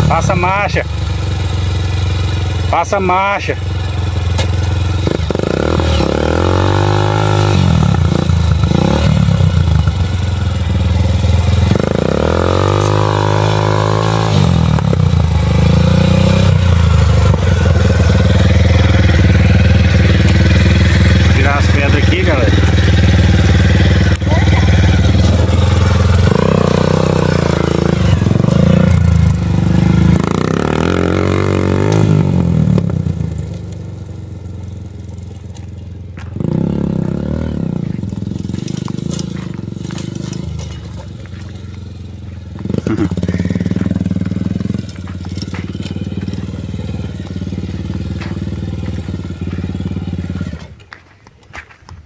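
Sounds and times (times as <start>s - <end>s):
dirt bike engine revving: 0.0s - 50.8s.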